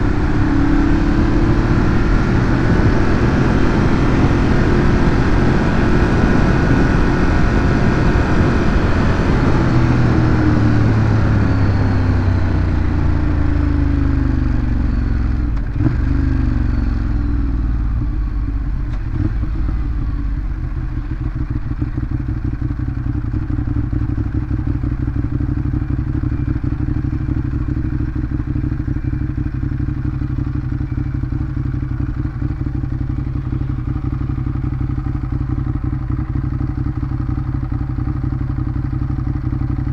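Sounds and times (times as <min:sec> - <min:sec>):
motorcycle engine revs and idle: 0:00.0 - 0:39.9.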